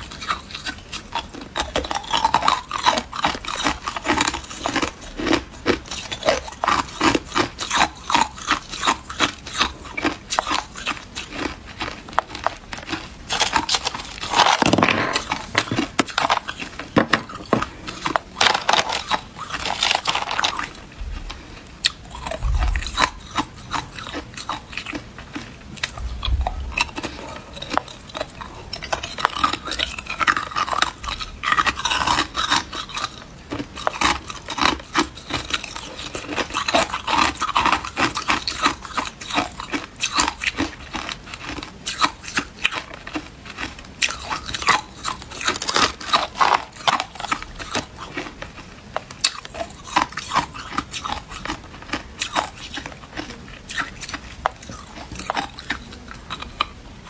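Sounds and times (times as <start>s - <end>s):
ice crunching being chewed: 0.0s - 57.0s.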